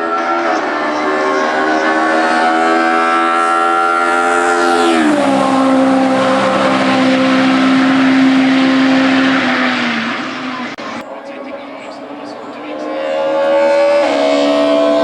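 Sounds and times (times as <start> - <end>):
race car passing at full throttle: 0.0 - 15.0.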